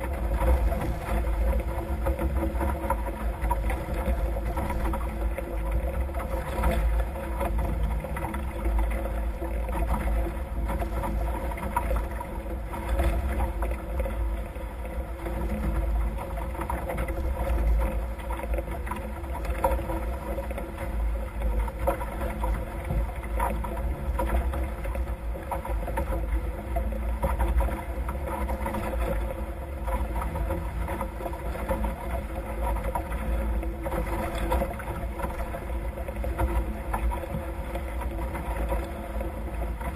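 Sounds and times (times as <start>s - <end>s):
water rushing along hulls: 0.0s - 39.9s.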